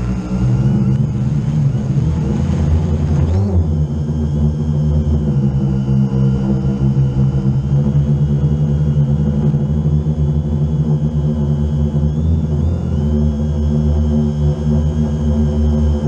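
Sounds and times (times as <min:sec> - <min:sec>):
drone motors humming: 0:00.0 - 0:16.0
faint high whine: 0:00.0 - 0:16.0.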